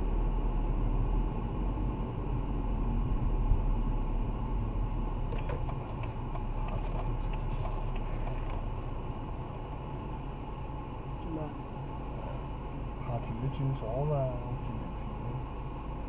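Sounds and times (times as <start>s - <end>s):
car interior road and engine rumble: 0.0s - 16.0s.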